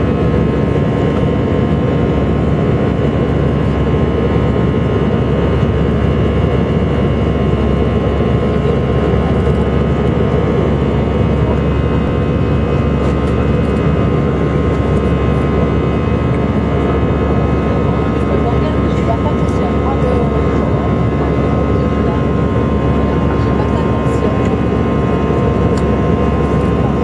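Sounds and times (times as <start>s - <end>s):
jet engine cabin noise: 0.0s - 27.0s
steady engine tones: 0.0s - 27.0s.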